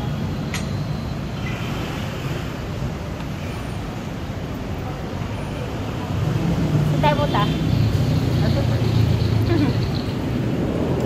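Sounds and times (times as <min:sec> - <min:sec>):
cars passing on street: 0:00.0 - 0:11.0.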